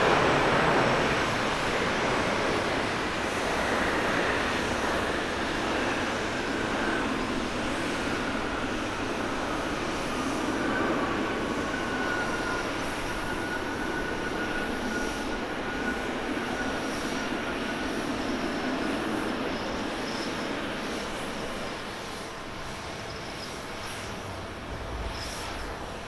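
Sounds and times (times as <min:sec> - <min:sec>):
jet engine rush: 0:00.0 - 0:26.0.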